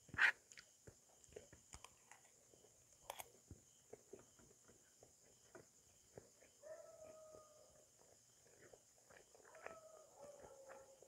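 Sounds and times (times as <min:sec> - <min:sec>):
soft chewing and mouth clicks: 0:00.2 - 0:11.0.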